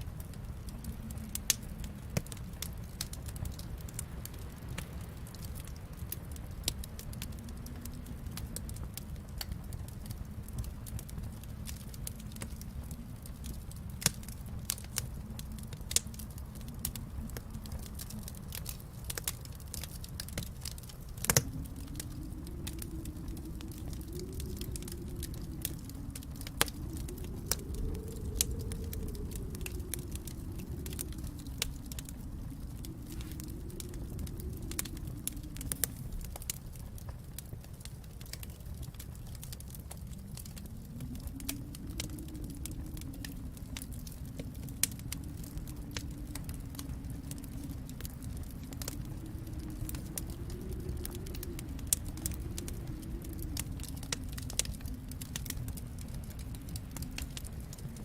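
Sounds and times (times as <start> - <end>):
low rumble: 0.0 - 58.0
wood fire crackling: 0.0 - 58.0.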